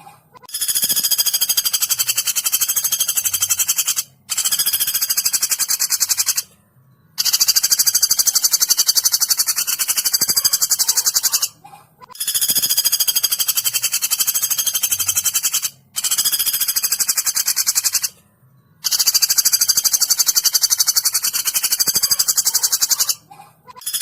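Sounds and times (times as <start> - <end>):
woodpecker call: 0.0 - 6.6, 7.2 - 18.2, 18.8 - 24.0.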